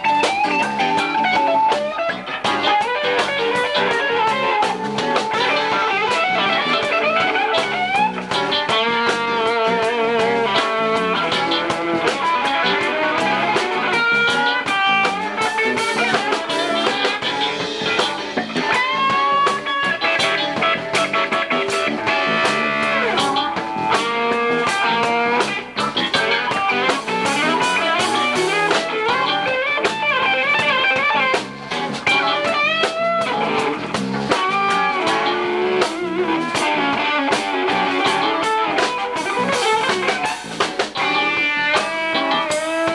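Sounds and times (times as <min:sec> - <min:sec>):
drums: 0:00.0 - 0:42.9
electric guitar solo: 0:00.0 - 0:42.9.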